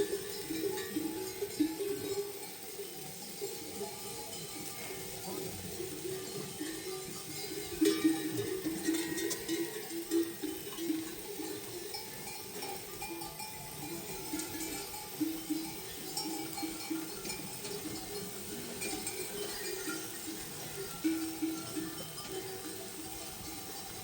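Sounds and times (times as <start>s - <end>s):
livestock bells clanking: 0.0s - 24.0s.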